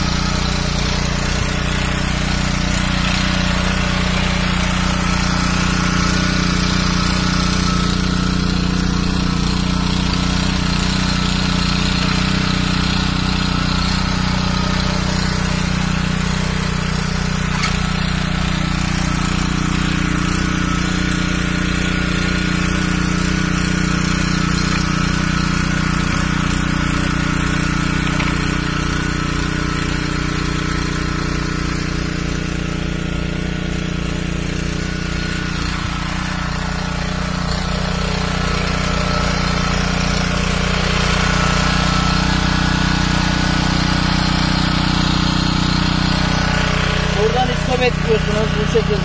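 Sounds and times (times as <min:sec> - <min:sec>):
small petrol engine running: 0:00.0 - 0:49.0.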